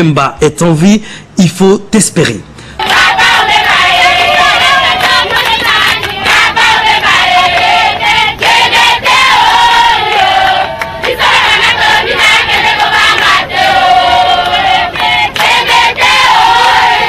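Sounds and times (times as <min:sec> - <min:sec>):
crowd singing and chanting: 0:02.7 - 0:17.0.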